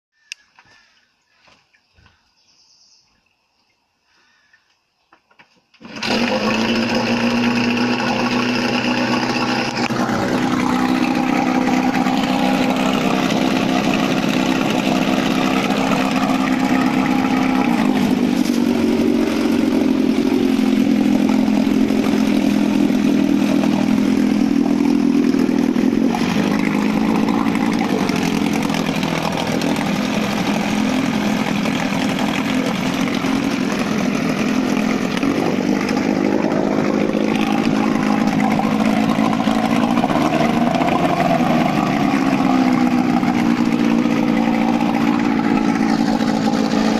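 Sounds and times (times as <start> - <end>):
outboard motor running: 5.8 - 46.9
propeller churning water: 5.8 - 46.9.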